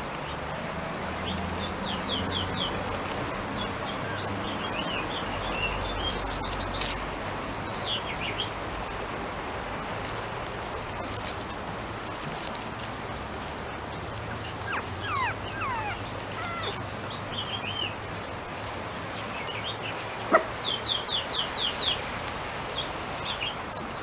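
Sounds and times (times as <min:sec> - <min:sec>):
small songbirds chirping: 0:00.1 - 0:09.0, 0:11.0 - 0:24.0.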